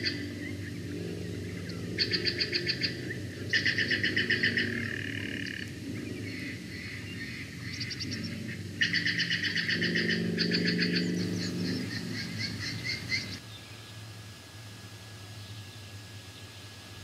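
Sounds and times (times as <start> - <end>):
bird calling in trilled runs: 0.0 - 13.7
low steady hum: 0.0 - 17.0.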